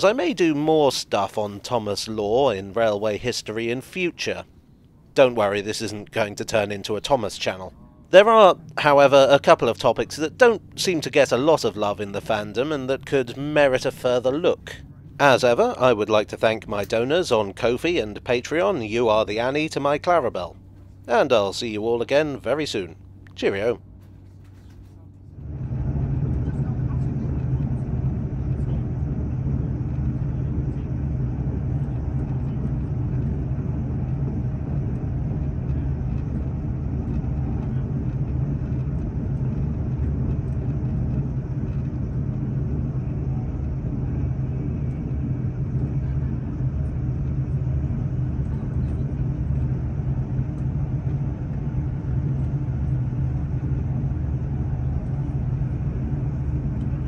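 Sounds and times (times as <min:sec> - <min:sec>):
droning hum: 0:00.0 - 0:57.0
train running rumble from inside: 0:05.2 - 0:57.0.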